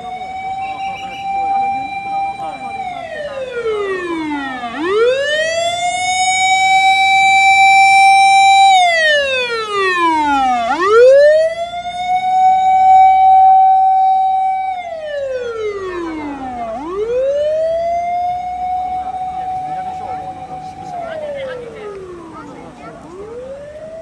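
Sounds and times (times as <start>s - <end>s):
emergency vehicle siren wailing: 0.0s - 24.0s.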